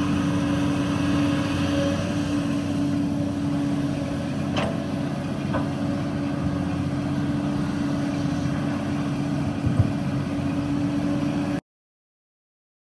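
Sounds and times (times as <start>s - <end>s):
diesel engine running: 0.0s - 11.6s.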